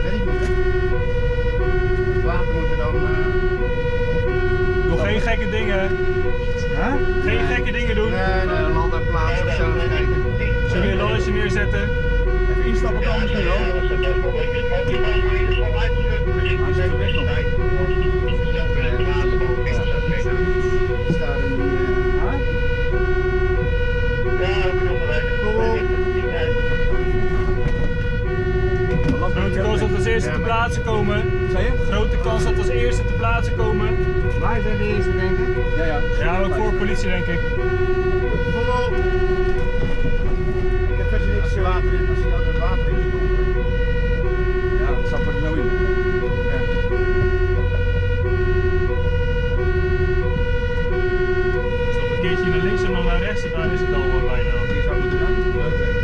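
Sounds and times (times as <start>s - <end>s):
engine and road rumble: 0.0s - 56.0s
two-tone siren: 0.0s - 56.0s.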